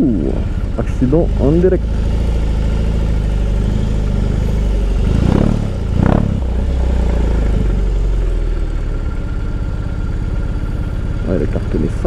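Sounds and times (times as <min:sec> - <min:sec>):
motorcycle engine running: 0:00.0 - 0:12.0
motorcycle throttle blips: 0:00.0 - 0:12.0.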